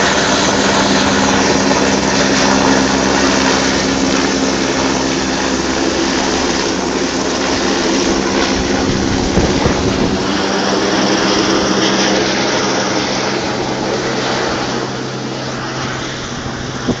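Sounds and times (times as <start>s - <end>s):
helicopter rotor and engine: 0.0s - 17.0s.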